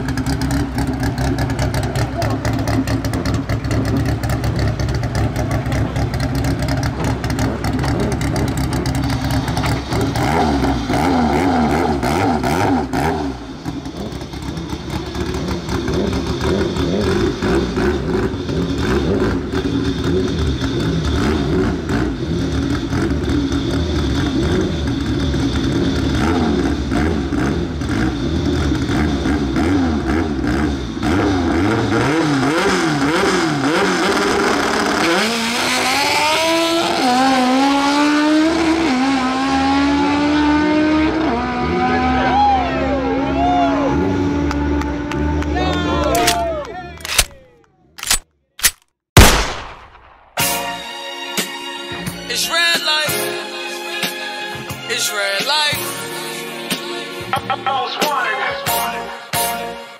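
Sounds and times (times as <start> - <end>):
car engine idling and revving: 0.0 - 48.8, 51.4 - 58.8.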